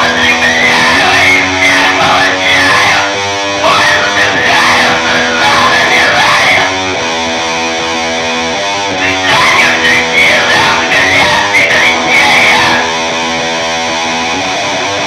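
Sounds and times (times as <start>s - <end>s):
band music with electric guitar: 0.0s - 15.0s.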